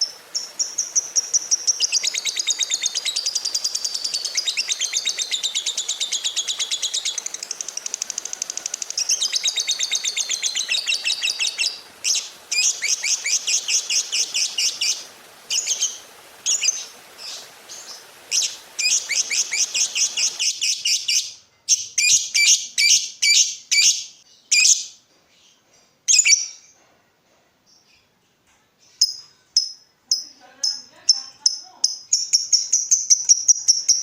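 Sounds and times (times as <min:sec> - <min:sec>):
lovebird chirping: 0:00.0 - 0:26.8, 0:28.8 - 0:34.0
background hiss: 0:00.0 - 0:34.0.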